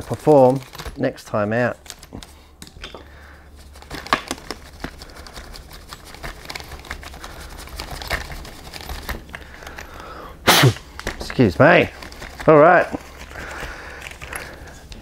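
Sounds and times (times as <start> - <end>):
stiff brush scrubbing plastic: 0.0 - 2.4, 3.2 - 9.9, 10.8 - 15.0.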